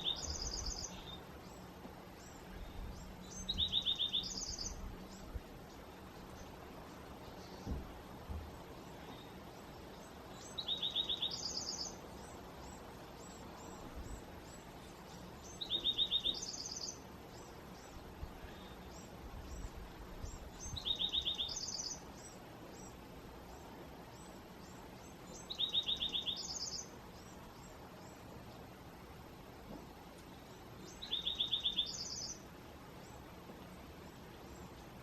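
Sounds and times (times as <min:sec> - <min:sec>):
songbird trilled song: 0:00.0 - 0:07.8, 0:09.0 - 0:28.4, 0:30.3 - 0:33.3
steady background hiss: 0:00.0 - 0:35.0.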